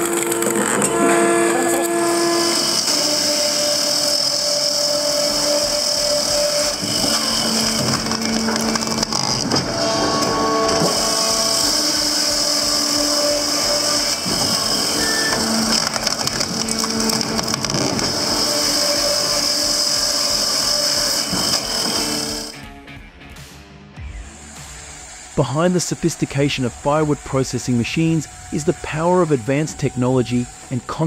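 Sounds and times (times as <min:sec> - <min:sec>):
firewood processor running: 0:00.0 - 0:22.6, 0:24.0 - 0:31.0
steady high whine: 0:00.0 - 0:31.0.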